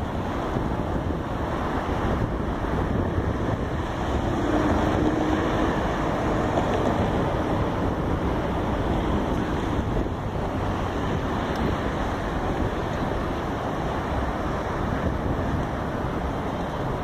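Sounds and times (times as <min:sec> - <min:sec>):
street traffic noise: 0:00.0 - 0:17.0
wind buffeting microphone: 0:00.0 - 0:17.0.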